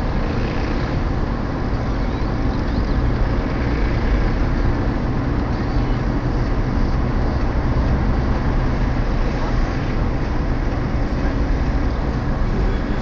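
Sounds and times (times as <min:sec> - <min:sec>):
car engine running: 0:00.0 - 0:13.0
tyre and road noise: 0:00.0 - 0:13.0.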